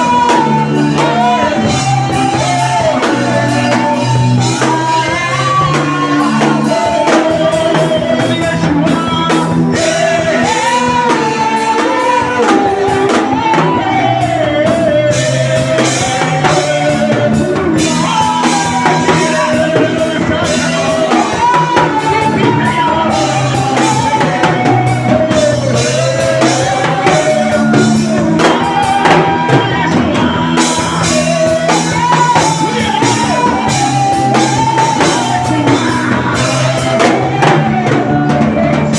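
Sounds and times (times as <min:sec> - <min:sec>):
bass notes: 0:00.0 - 0:38.9
bending melody line: 0:00.0 - 0:38.9
steady drum beat: 0:00.0 - 0:38.9.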